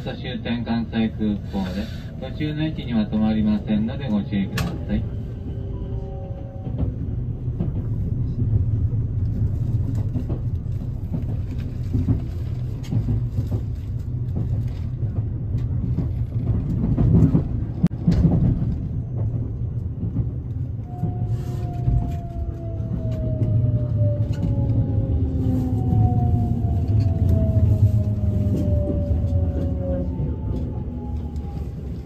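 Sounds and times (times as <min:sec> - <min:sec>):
train low rumble: 0:00.0 - 0:32.0.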